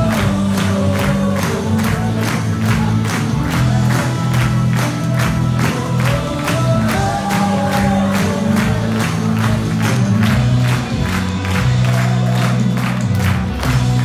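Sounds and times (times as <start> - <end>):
crowd noise: 0.0 - 14.0
upbeat music with bass: 0.0 - 14.0.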